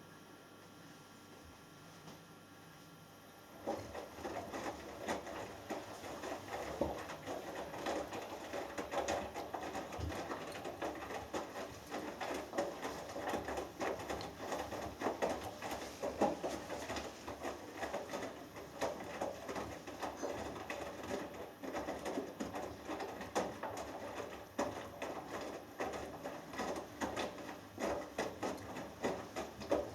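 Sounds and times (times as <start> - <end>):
washing machine drum tumbling laundry: 3.5 - 29.9.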